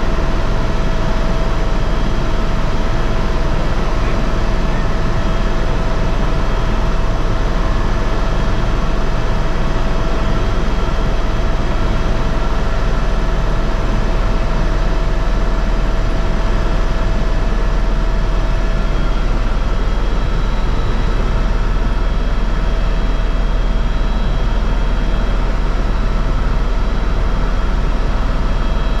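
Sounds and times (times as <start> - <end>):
helicopter rotor and engine noise: 0.0 - 29.0.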